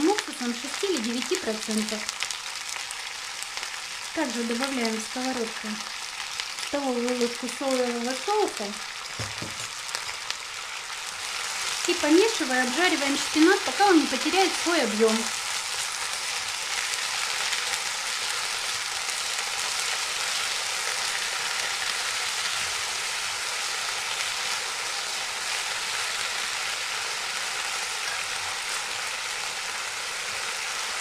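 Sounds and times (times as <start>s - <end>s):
food frying in hot oil: 0.0s - 31.0s.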